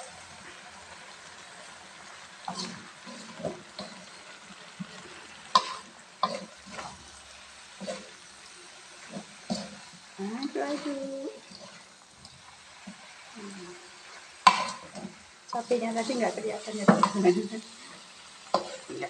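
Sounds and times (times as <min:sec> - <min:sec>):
faint frying sizzle: 0:00.0 - 0:19.0
wooden spatula scraping wok: 0:00.0 - 0:19.0.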